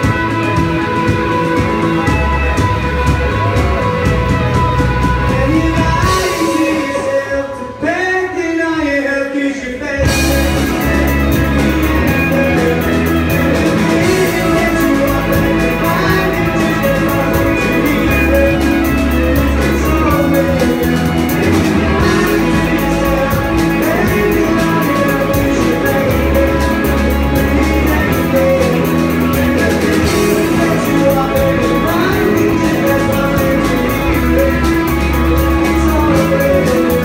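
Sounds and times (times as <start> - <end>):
drum kit with cymbals: 0.0 - 7.7, 10.0 - 37.0
bass guitar: 0.0 - 37.0
electric guitars: 0.0 - 37.0
person singing: 0.0 - 37.0.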